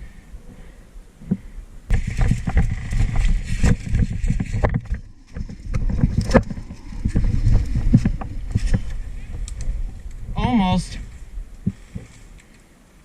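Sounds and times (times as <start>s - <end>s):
wind buffeting microphone: 1.2s - 12.5s.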